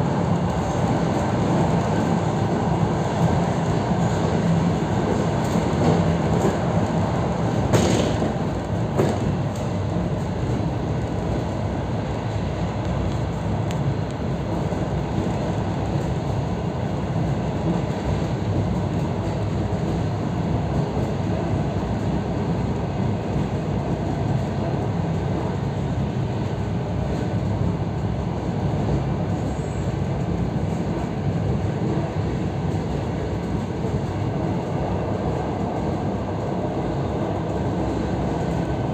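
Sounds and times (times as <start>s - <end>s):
train wheels rumbling: 0.0s - 38.9s.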